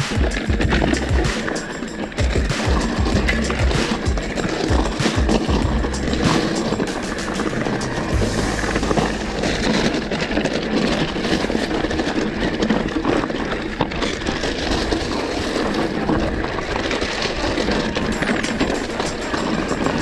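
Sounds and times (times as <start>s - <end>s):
bike knocks and rattles: 0.0s - 20.0s
tyres crunching over stones: 0.2s - 20.0s.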